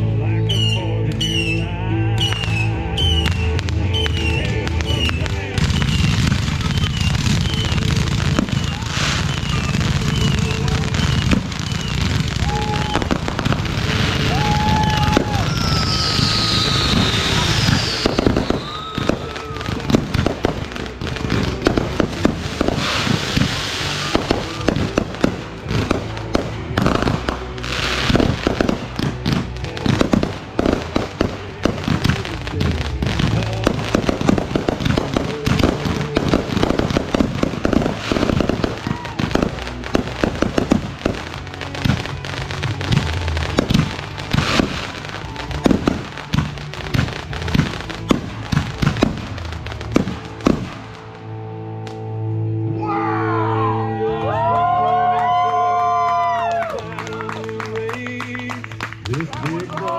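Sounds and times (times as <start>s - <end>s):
fireworks bangs and crackles: 0.0s - 52.1s, 54.6s - 59.9s
background music: 0.0s - 59.9s
fireworks hissing bursts: 2.3s - 51.4s.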